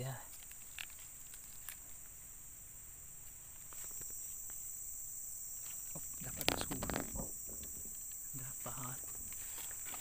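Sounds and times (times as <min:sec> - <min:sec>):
insects shrilling: 0:00.0 - 0:10.0.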